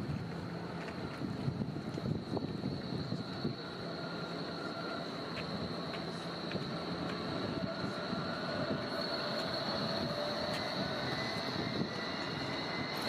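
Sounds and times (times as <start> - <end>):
rolling and traffic noise: 0.0 - 13.0
tram passing with high whine: 0.0 - 13.0.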